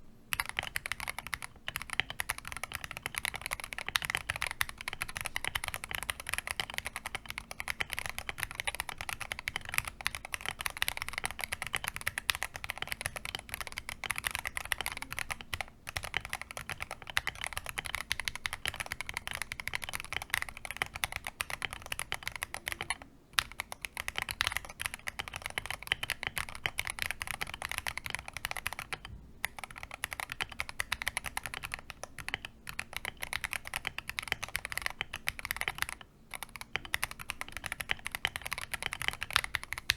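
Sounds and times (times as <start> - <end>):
mechanical keyboard typing: 0.3 - 39.9.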